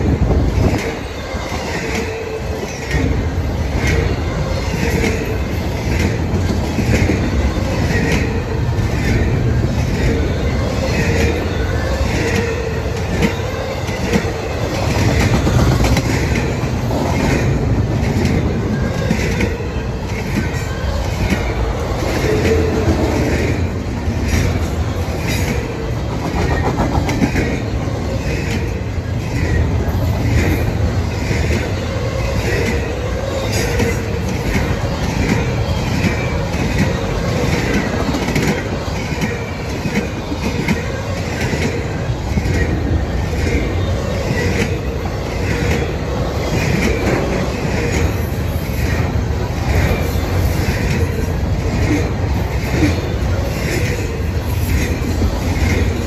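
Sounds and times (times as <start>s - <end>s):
freight train wheels rumbling: 0.0s - 56.0s
wheels clickety-clack on track: 0.0s - 56.0s.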